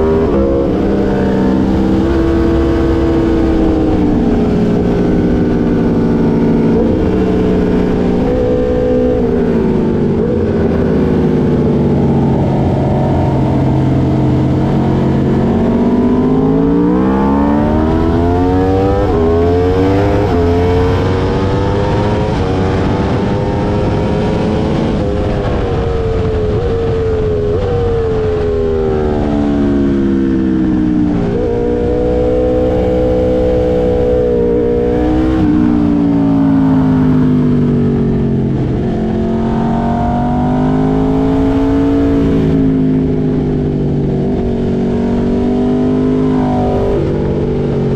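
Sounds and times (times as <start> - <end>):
motorcycle engine accelerating and shifting: 0.0 - 47.9.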